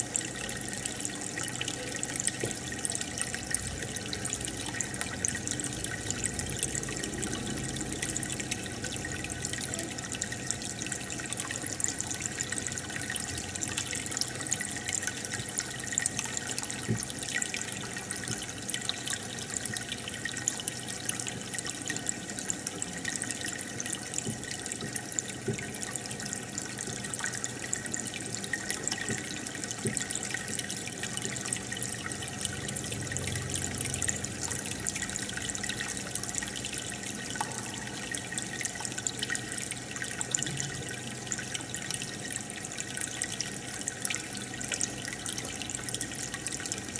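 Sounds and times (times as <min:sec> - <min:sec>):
aquarium water bubbling: 0:00.0 - 0:46.9
faint steady hum: 0:00.0 - 0:46.9.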